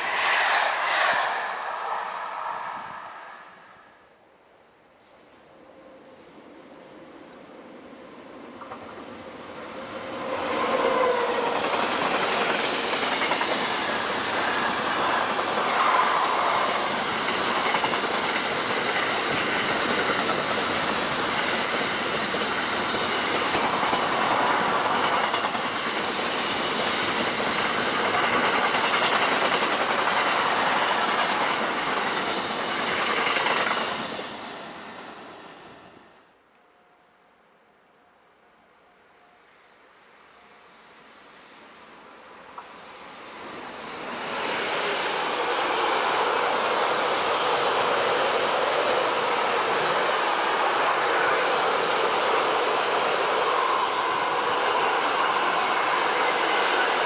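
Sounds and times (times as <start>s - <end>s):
train passing on rails: 0.0s - 57.0s.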